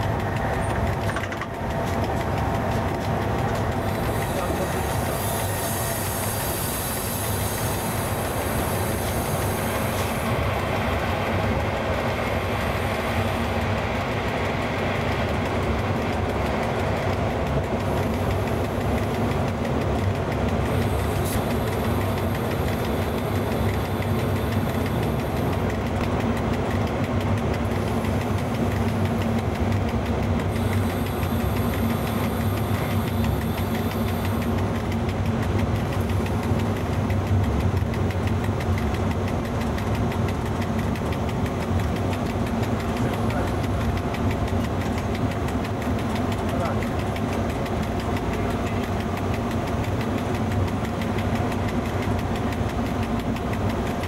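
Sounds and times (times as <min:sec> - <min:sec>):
locomotive cab drone and hum: 0:00.0 - 0:54.0
wheels rolling on rails: 0:00.0 - 0:54.0.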